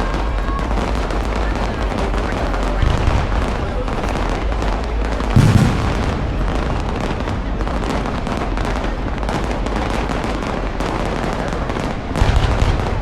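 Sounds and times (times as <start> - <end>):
fireworks crackling and popping: 0.0 - 13.0
firework boom: 0.8 - 13.0.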